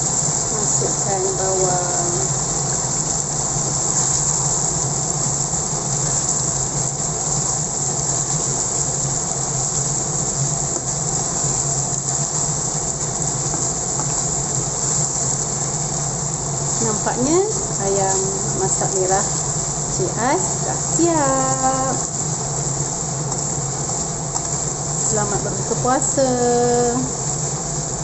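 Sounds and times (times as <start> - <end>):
sauce sizzling in a wok: 0.0 - 28.0.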